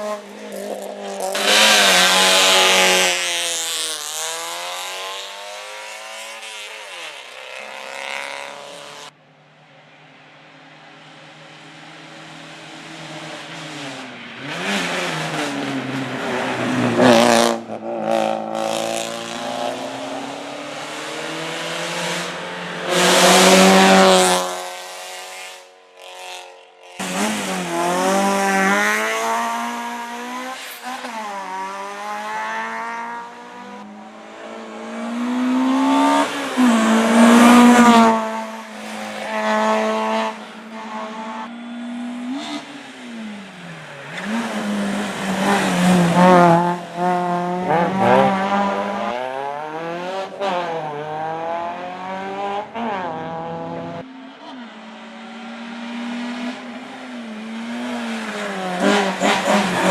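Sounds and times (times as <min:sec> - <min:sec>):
race car engine revving: 0:00.0 - 0:09.2, 0:11.0 - 0:25.6, 0:27.0 - 0:59.9.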